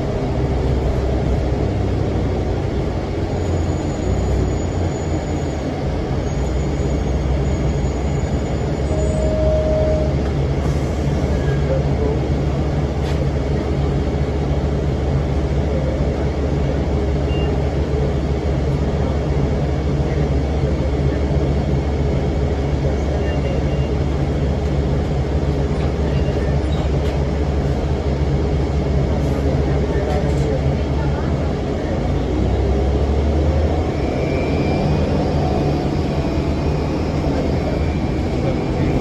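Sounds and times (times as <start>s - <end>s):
bus diesel engine droning: 0.0s - 39.0s.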